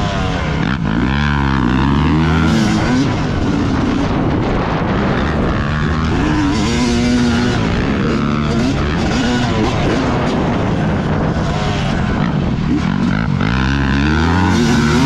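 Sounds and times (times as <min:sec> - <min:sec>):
dirt bike engine revving: 0:00.0 - 0:15.0
track noise: 0:00.0 - 0:15.0
wind: 0:00.0 - 0:15.0.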